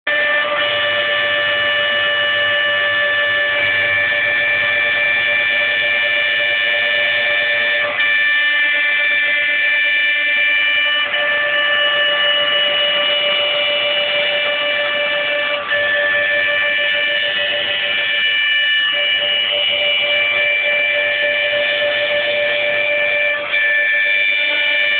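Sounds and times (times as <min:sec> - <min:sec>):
spindle motor whining: 0:00.1 - 0:24.9.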